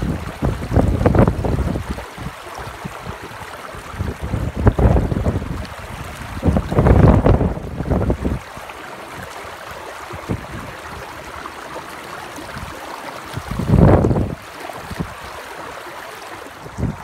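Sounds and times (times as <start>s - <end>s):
wind rumbling on microphone: 0.0s - 11.5s, 12.3s - 15.4s, 16.4s - 17.0s
creek water running over rocks: 0.0s - 17.0s.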